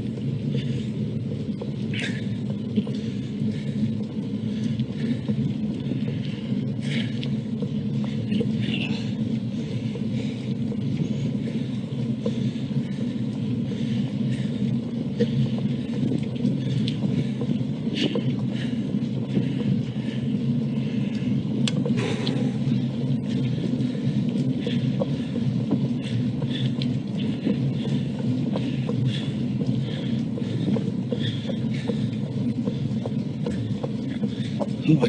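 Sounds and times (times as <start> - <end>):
bicycle tyre and road rumble: 0.0 - 35.0.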